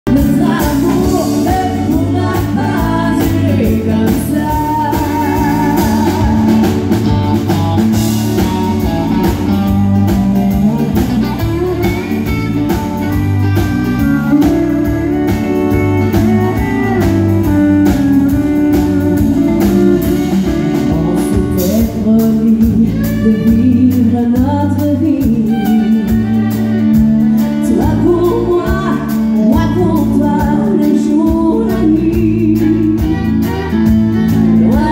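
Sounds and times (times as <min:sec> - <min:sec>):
country band playing: 0:00.0 - 0:34.9
woman singing: 0:00.1 - 0:07.0, 0:13.5 - 0:34.9
pedal steel guitar: 0:00.1 - 0:34.9.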